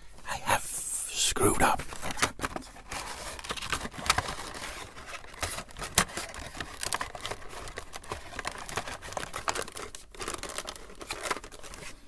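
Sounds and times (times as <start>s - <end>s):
plastic packaging crinkling: 1.8s - 12.0s.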